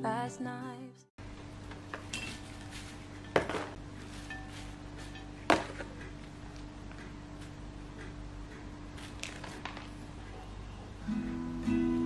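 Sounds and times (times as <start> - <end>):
steady hum: 1.2 - 12.0.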